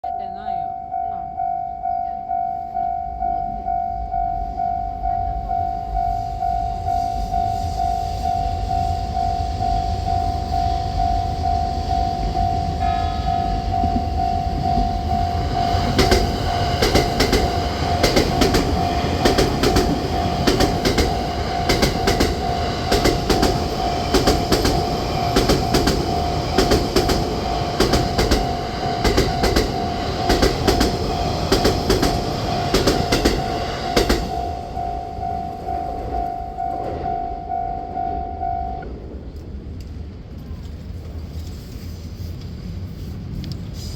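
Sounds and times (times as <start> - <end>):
level crossing bell ringing: 0.0 - 39.1
train wheels clacking on rails: 5.9 - 43.9.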